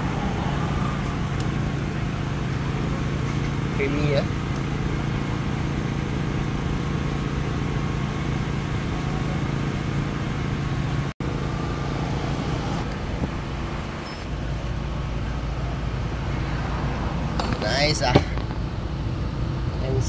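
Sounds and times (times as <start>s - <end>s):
outdoor street noise: 0.0s - 20.0s.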